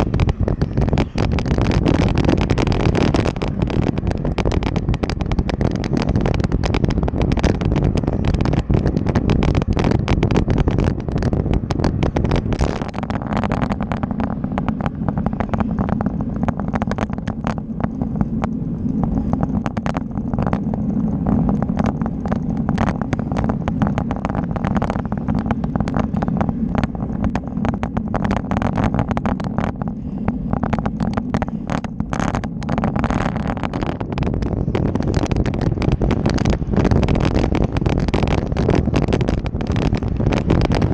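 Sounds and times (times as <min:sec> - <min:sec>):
bike knocks and rattles: 0:00.0 - 0:40.9
steady low hum: 0:00.0 - 0:40.9
wind and road rumble: 0:00.0 - 0:40.9.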